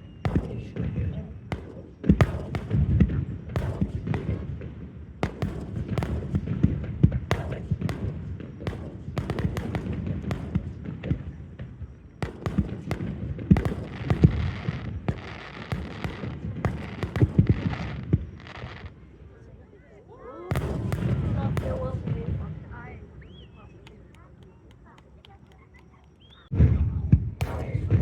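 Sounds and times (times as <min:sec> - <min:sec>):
crackling hiss of fireworks: 0:00.0 - 0:19.6, 0:20.5 - 0:28.0
fireworks exploding: 0:00.0 - 0:28.0.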